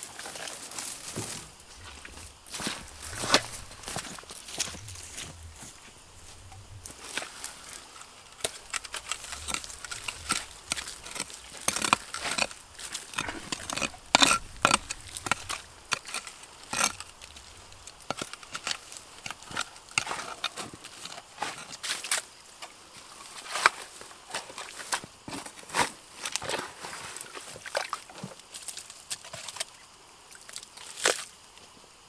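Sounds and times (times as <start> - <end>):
footsteps through grass and undergrowth: 0.0 - 28.4.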